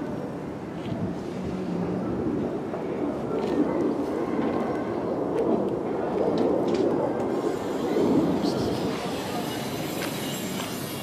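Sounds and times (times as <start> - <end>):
street ambience rumble: 0.0 - 11.0.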